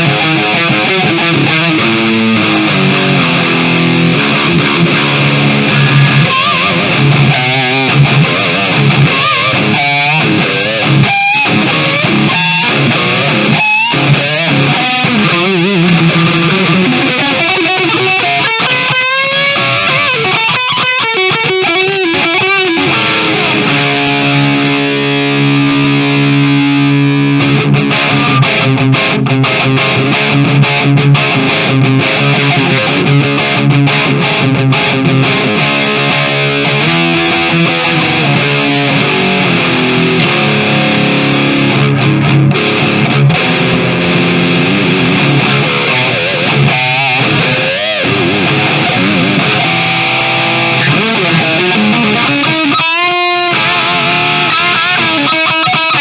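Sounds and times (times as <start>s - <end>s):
distorted electric guitar riffs: 0.0s - 56.0s.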